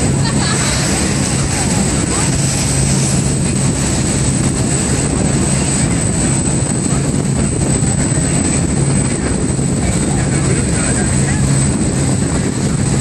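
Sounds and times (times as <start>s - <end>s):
loud rushing noise: 0.0s - 13.0s
low engine drone: 0.0s - 13.0s.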